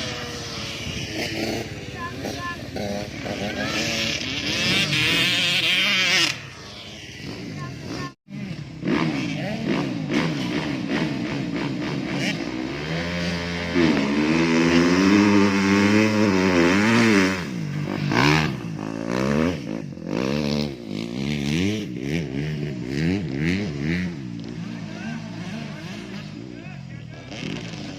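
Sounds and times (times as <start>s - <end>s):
motocross bike engines revving: 0.0s - 27.9s.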